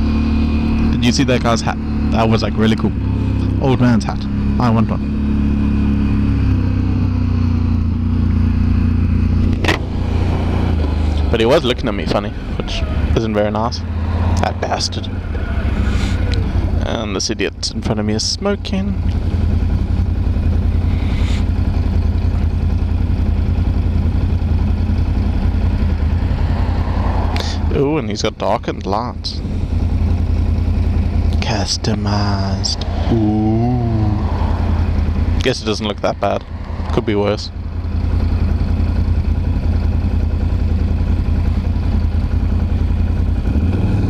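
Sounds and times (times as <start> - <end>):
quad engine rumbling: 0.0 - 44.0.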